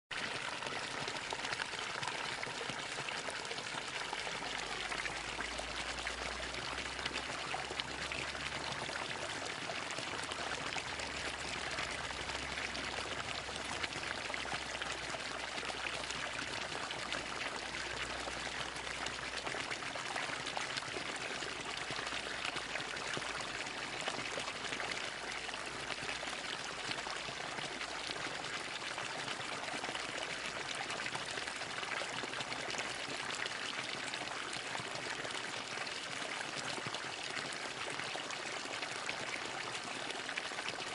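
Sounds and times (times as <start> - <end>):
water fountain pouring and splashing: 0.1 - 40.9.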